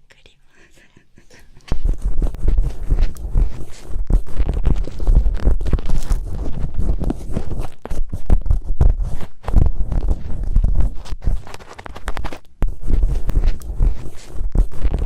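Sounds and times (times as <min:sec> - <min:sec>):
earpick scraping in ear: 0:01.6 - 0:15.0.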